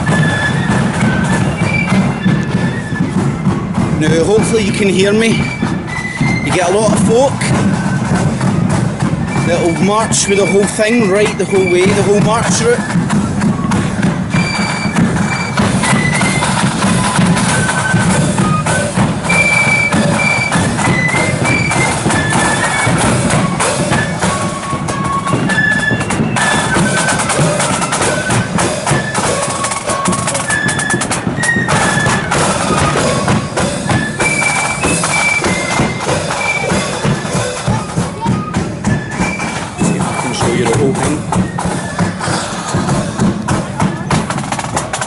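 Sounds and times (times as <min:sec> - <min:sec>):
flutes playing a melody: 0:00.0 - 0:45.0
side and bass drumming: 0:00.0 - 0:45.0.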